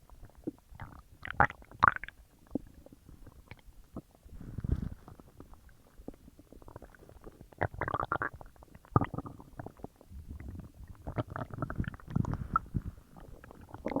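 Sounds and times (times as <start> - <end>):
stomach gurgling: 0.0 - 14.0.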